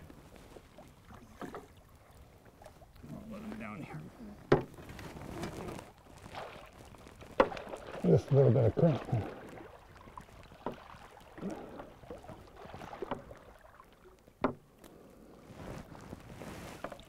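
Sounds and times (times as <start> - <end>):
water sloshing against boat: 0.0 - 17.0.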